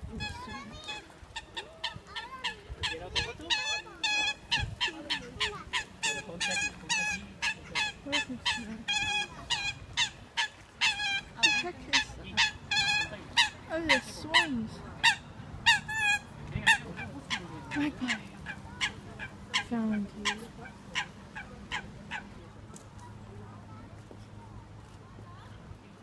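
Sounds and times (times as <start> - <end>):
geese honking: 0.2 - 22.3.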